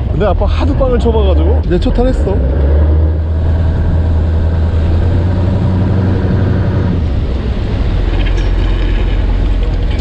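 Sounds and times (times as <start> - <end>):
boat engine humming: 0.0 - 10.0
water rushing along hull: 0.0 - 10.0.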